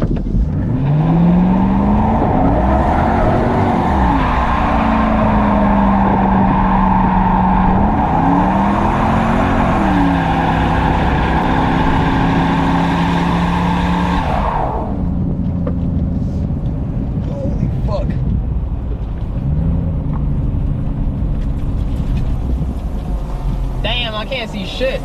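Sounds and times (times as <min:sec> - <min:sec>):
car engine at high revs: 0:00.0 - 0:25.0.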